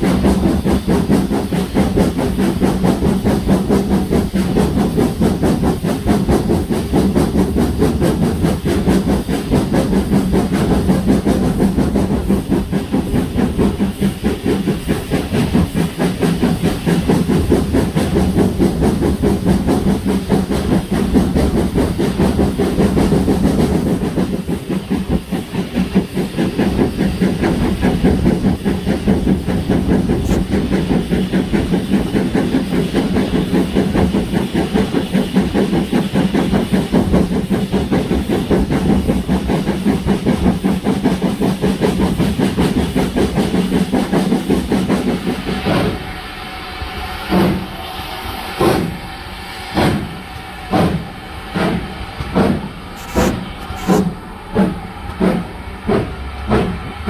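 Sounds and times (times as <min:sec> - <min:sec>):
steam hissing: 0:00.0 - 0:57.0
steam locomotive exhaust beats: 0:00.0 - 0:57.0.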